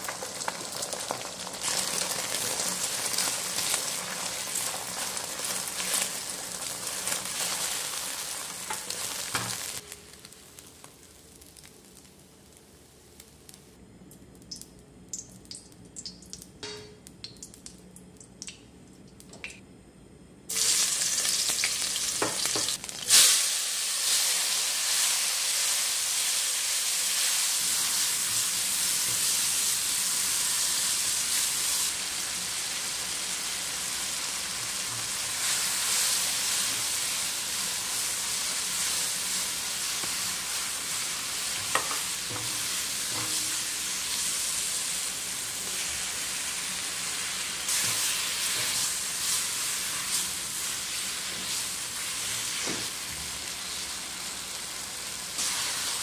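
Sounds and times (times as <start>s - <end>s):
food sizzling in a wok: 0.0s - 13.8s, 20.5s - 56.0s.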